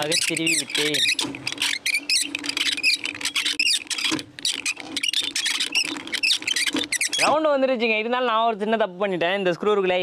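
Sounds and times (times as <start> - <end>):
roller bender squeaking and clicking: 0.0 - 8.1.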